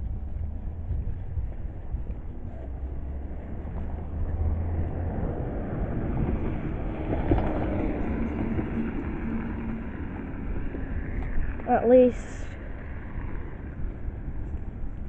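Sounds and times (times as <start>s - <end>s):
vehicle passing: 0.0s - 15.0s
wind rumble on microphone: 0.0s - 15.0s.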